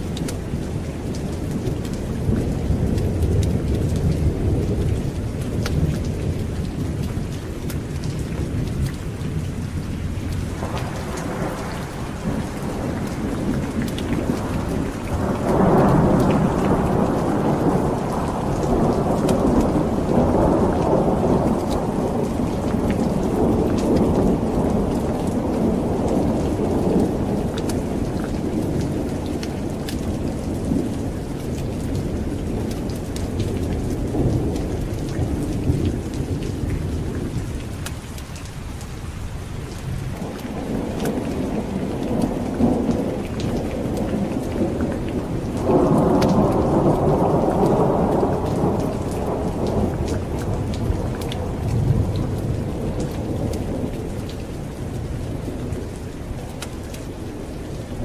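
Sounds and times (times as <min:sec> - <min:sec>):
thunder rumbling: 0:00.0 - 0:38.0, 0:39.6 - 0:58.0
steady rain: 0:00.0 - 0:58.0.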